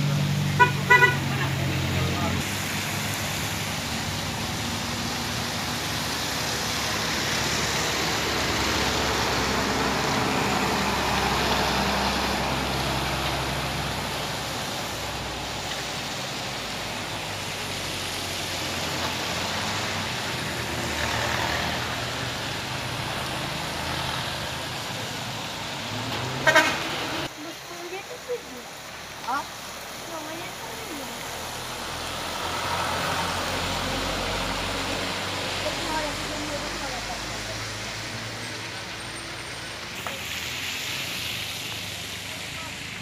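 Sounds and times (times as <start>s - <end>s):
bus engine: 0.0s - 43.0s
tyres hissing on wet asphalt: 0.0s - 43.0s
vehicles passing: 0.0s - 43.0s.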